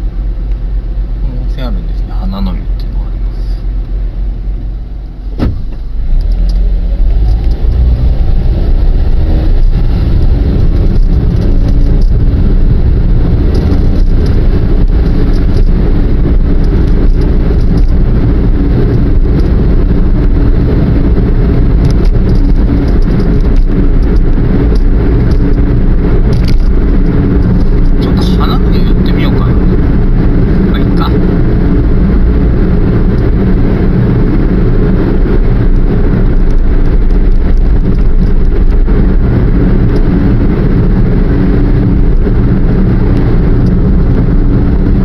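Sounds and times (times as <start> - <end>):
car engine: 0.0 - 45.0
road noise: 0.0 - 45.0.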